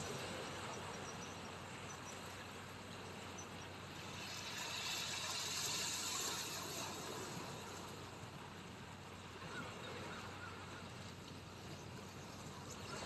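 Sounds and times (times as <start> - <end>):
waves washing on shoreline: 0.0 - 13.0.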